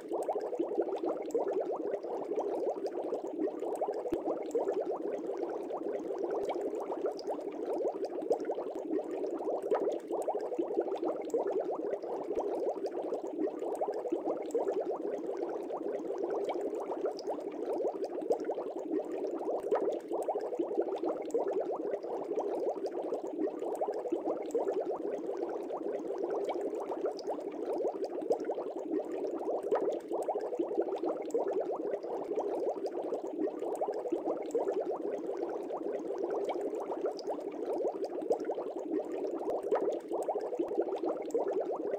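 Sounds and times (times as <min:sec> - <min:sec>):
water bubbling: 0:00.0 - 0:41.9.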